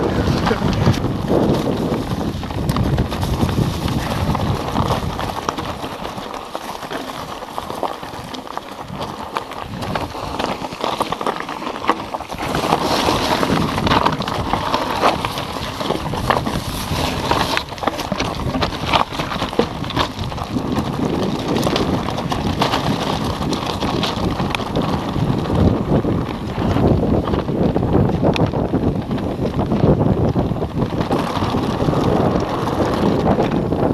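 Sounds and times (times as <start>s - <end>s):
bike rattling and knocking: 0.0s - 33.9s
tyres crunching on loose stones: 0.0s - 33.9s
wind buffeting microphone: 0.0s - 33.9s.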